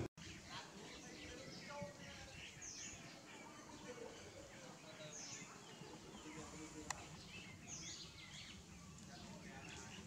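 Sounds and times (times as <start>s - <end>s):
faint forest ambience: 0.2s - 10.0s.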